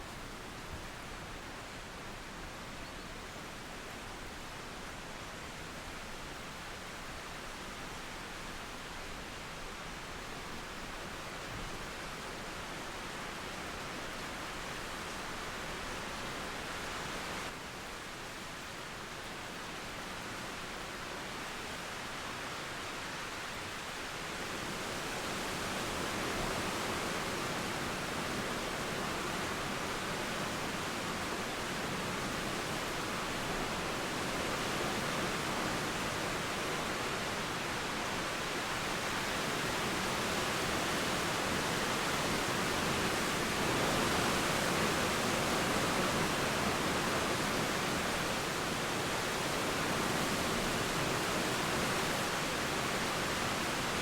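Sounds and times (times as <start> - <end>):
flowing river: 0.0 - 54.0
steady rain: 0.0 - 54.0.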